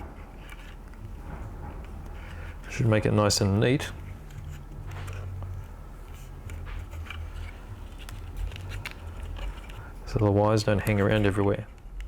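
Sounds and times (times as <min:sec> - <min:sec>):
low hum: 0:00.0 - 0:10.4
wire clicking and rustling: 0:00.0 - 0:11.4.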